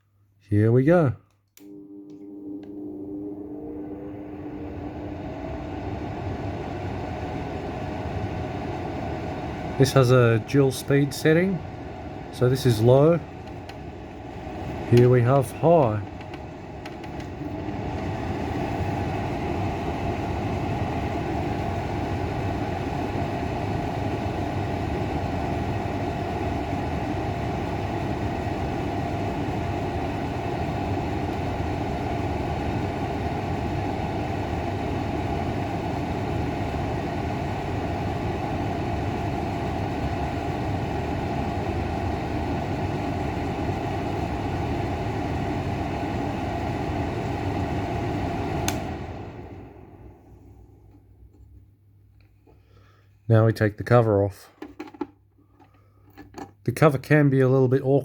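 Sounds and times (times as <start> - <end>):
exhaust fan running: 0.5 - 58.0.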